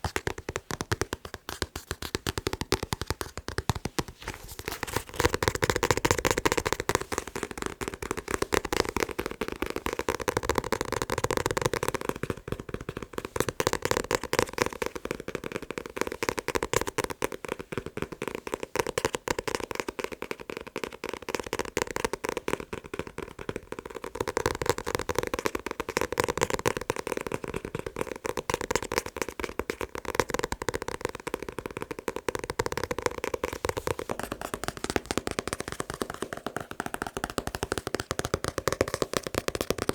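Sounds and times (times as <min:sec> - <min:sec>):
fast tapping on a book: 0:00.0 - 0:39.9.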